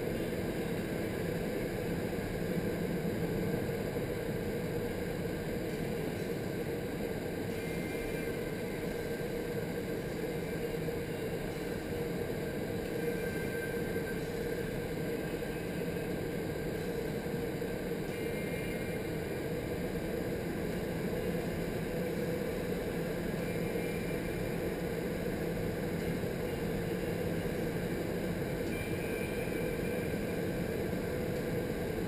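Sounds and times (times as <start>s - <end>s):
wind tunnel airflow roar: 0.0s - 32.0s.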